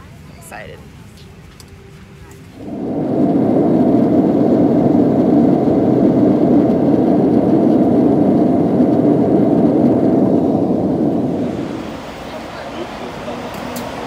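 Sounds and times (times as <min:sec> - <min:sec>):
jet airliner cabin noise: 0:00.0 - 0:14.0.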